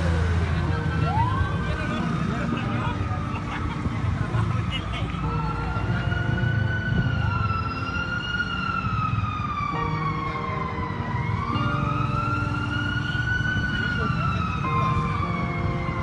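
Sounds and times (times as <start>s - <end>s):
siren wailing: 0.0s - 3.5s, 4.2s - 16.0s.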